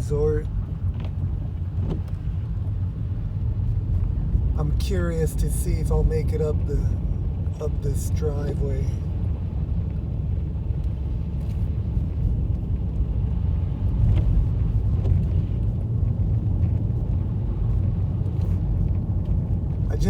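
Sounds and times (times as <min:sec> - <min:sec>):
car driving up a driveway: 0:00.0 - 0:20.0.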